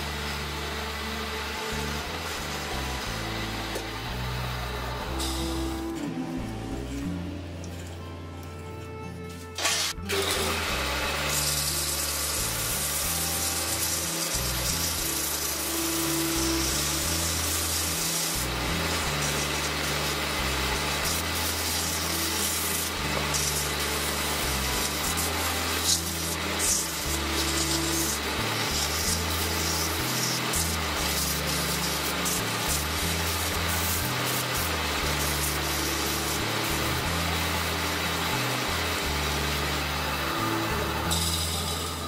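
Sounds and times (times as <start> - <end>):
wood rasping on a lathe: 0.0 - 6.1, 9.6 - 42.0
background music with bass line: 0.0 - 42.0.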